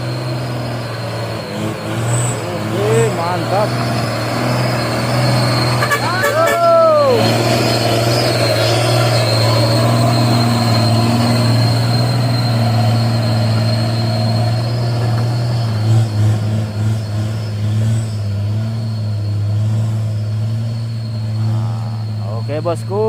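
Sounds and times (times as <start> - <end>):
high-pitched whine: 0.0 - 23.0
truck engine idling: 0.0 - 23.0.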